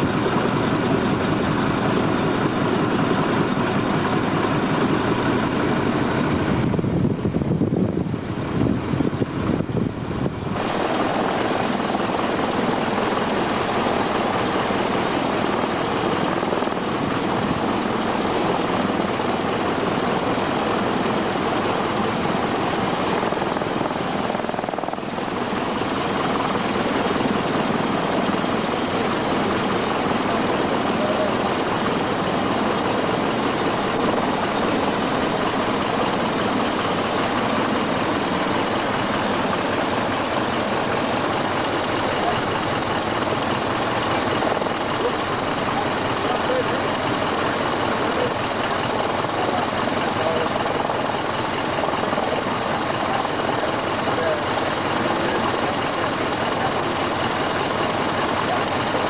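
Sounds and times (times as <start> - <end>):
biplane engine and propeller: 0.0 - 59.0.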